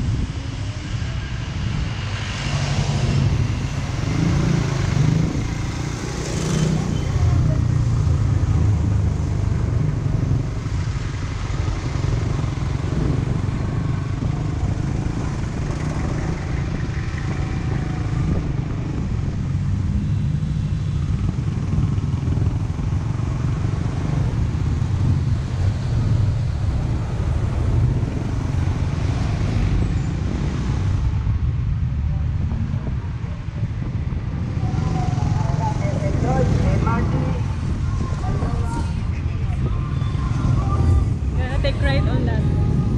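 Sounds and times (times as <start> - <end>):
road and traffic noise: 0.0 - 42.9.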